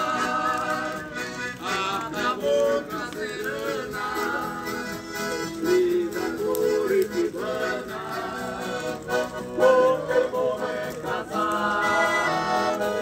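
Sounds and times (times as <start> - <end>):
accordion chords and melody: 0.0 - 13.0
acoustic guitar: 0.0 - 13.0.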